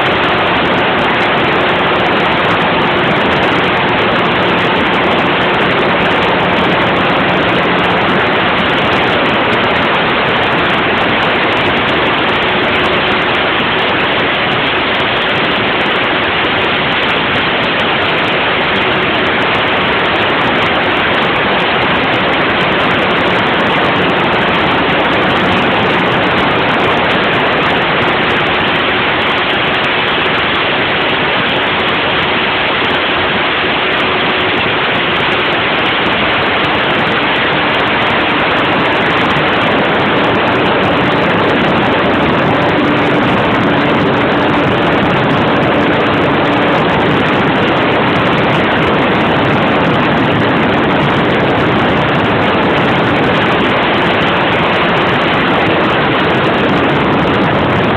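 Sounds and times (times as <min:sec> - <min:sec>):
wind on microphone: 0:00.0 - 0:57.9.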